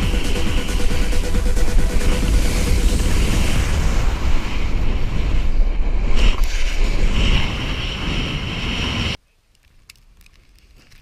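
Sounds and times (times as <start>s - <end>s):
snowboard scraping over snow: 0.0s - 9.2s
wind buffeting microphone: 0.0s - 9.2s.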